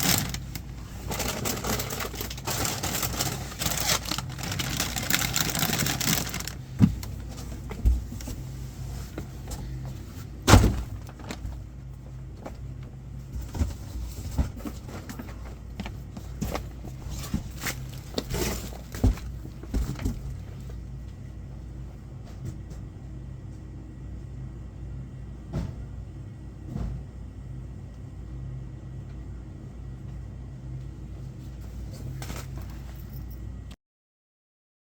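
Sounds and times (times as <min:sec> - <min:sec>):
steady low hum: 0:00.0 - 0:33.8.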